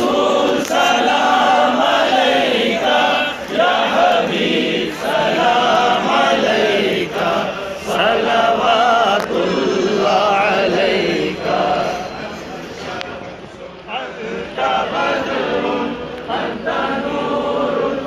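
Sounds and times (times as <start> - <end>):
crowd of men chanting: 0.0 - 13.2, 13.9 - 18.0.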